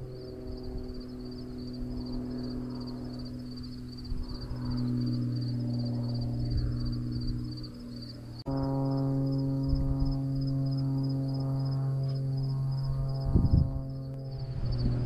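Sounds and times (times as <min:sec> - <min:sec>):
insect chirping: 0:00.0 - 0:15.0
propeller aircraft engine droning: 0:00.0 - 0:15.0.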